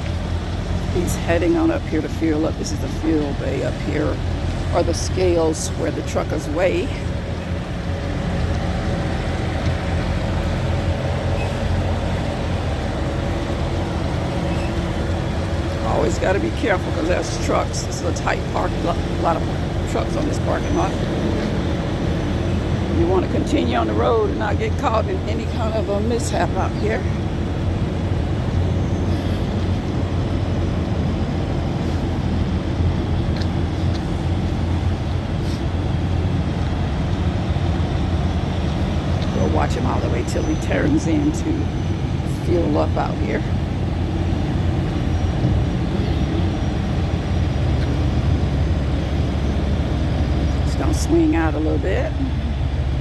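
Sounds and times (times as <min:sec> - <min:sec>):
vehicle engines humming: 0:00.0 - 0:53.0.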